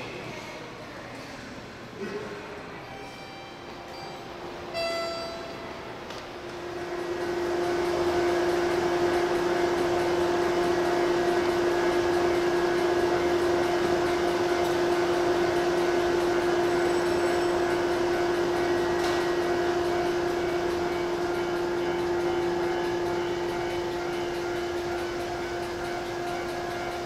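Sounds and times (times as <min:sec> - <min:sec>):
electric train humming: 0:02.6 - 0:27.0.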